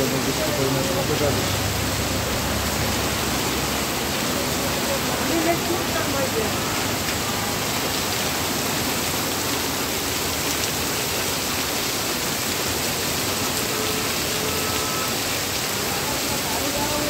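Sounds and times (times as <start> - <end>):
heavy rain pouring on street: 0.0 - 17.0.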